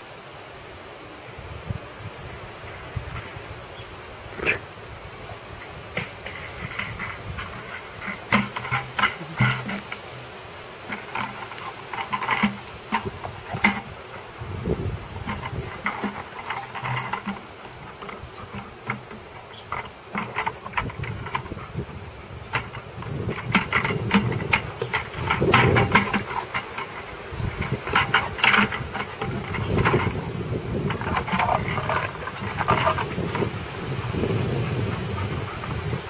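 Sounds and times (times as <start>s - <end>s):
plastic bucket knocking and scraping: 5.3s - 36.0s.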